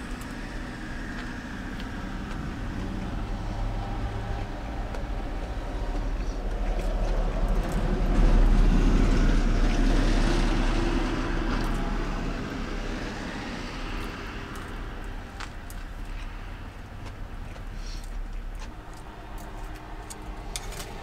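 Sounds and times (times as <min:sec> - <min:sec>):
steady low hum: 0:00.0 - 0:21.0
vehicle passing on road: 0:00.0 - 0:21.0.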